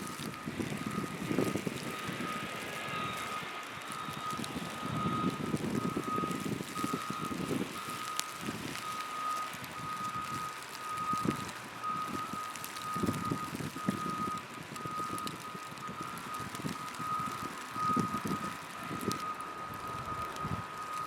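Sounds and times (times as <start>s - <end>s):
reversing alarm beeping: 0.0s - 21.0s
rumble of engines and traffic: 0.0s - 21.0s.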